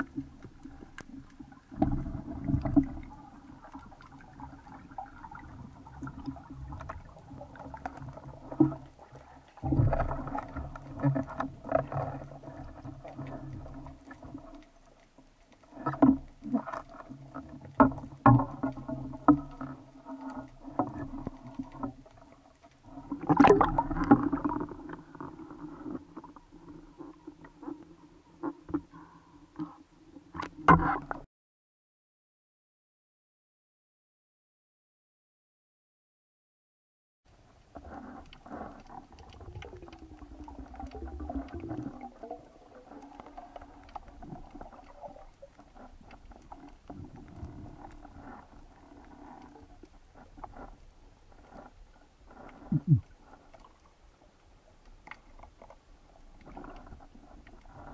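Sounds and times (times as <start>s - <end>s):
underwater low hum: 0.0s - 31.2s, 37.3s - 57.9s
water splashing and sloshing: 0.0s - 31.3s, 37.3s - 57.9s.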